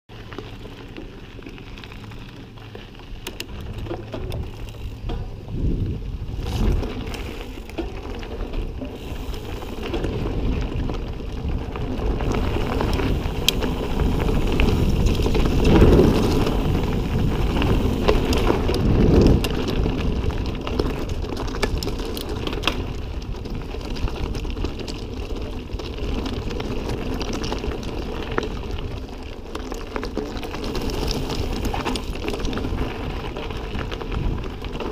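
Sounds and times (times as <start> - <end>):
bike tyres crunching on dirt: 0.1 - 34.9
wind rumble on microphone: 0.2 - 34.9.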